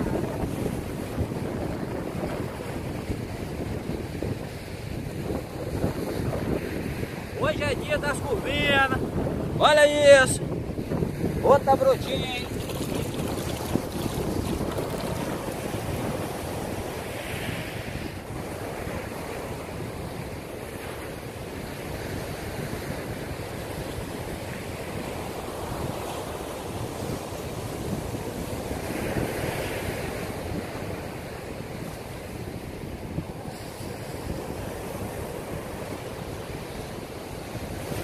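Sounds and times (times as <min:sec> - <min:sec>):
waves breaking on beach: 0:00.0 - 0:38.0
wind buffeting microphone: 0:00.0 - 0:38.0.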